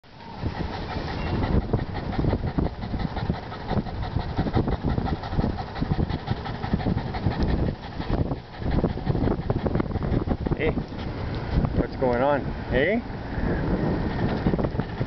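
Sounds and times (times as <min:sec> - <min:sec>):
bicycle rumbling and rattling: 0:00.1 - 0:12.0, 0:13.8 - 0:15.0
dog panting: 0:00.2 - 0:11.6, 0:14.0 - 0:15.0.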